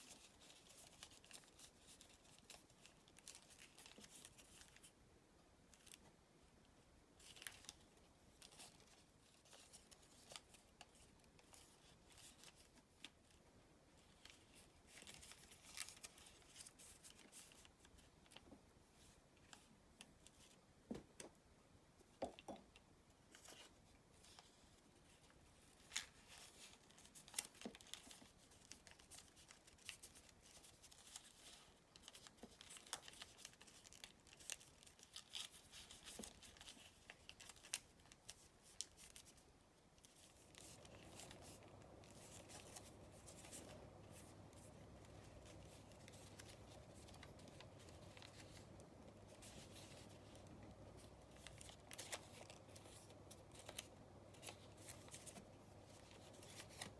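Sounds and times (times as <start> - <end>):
paper rustling and crinkling: 0.0 - 5.0, 7.2 - 20.6, 23.2 - 56.9
faint steady hum: 0.0 - 56.9.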